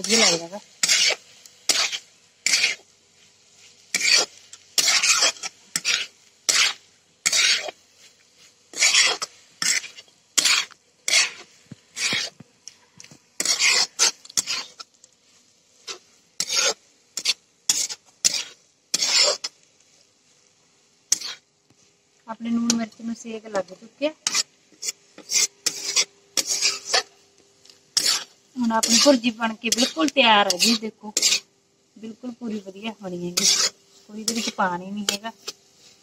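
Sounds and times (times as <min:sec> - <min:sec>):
metal spoon scraping a pan: 0:00.0 - 0:20.4, 0:21.0 - 0:31.5, 0:32.1 - 0:36.0
faint sizzle: 0:00.0 - 0:36.0.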